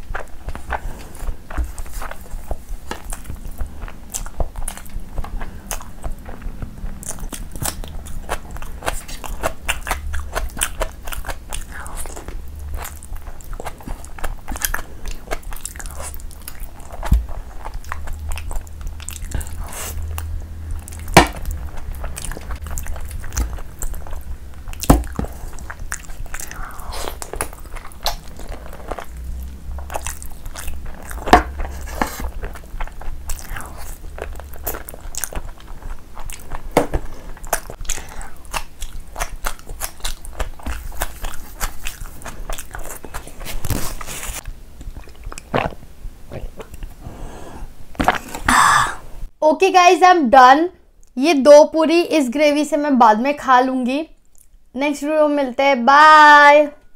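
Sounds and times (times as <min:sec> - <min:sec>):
mouth clicks and smacks: 0:00.0 - 0:47.0, 0:54.2 - 0:54.6
wet chewing and biting: 0:00.0 - 0:47.0.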